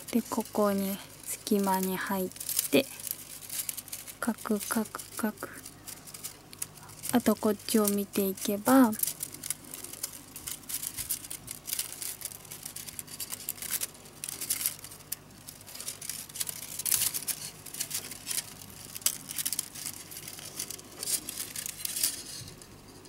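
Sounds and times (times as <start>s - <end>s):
bamboo strips clicking and scraping: 0.0s - 23.0s.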